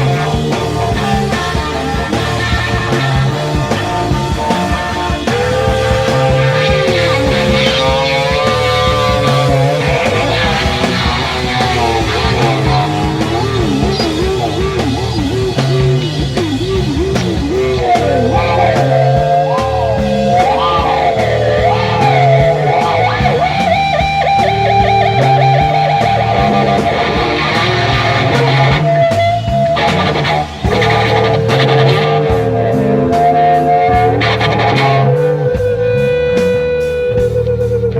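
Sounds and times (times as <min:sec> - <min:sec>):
bass and drums: 0:00.0 - 0:37.9
electric guitar solo: 0:00.0 - 0:37.9.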